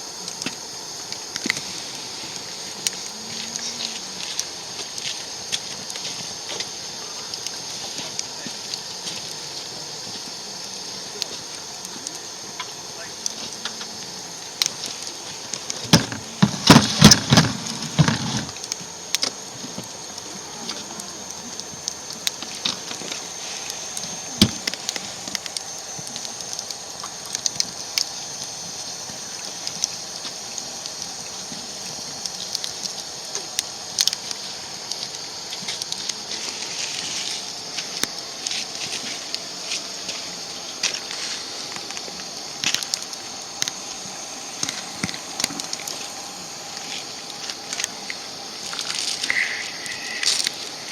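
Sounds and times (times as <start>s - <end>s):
wood fire hissing and crackling: 0.0s - 50.9s.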